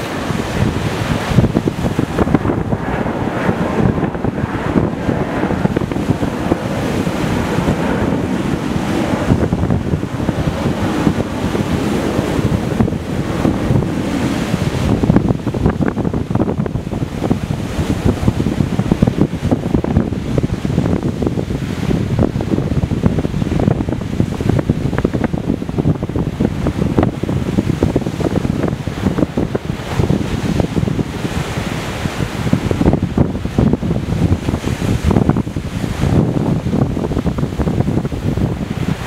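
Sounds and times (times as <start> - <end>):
surf breaking on rocks: 0.0 - 39.0
wind buffeting microphone: 0.0 - 39.0.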